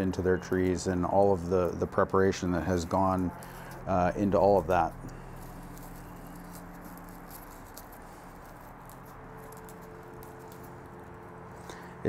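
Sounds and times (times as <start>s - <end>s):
dry leaves rustling and ticking: 0.0s - 12.0s
steady low hum: 0.0s - 12.0s.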